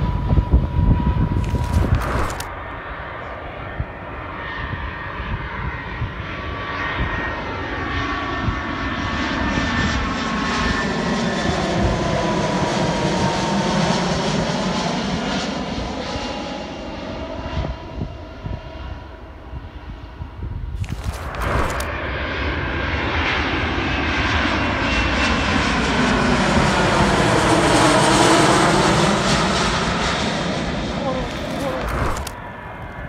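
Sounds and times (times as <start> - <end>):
jet airliner passing overhead: 0.0 - 33.0.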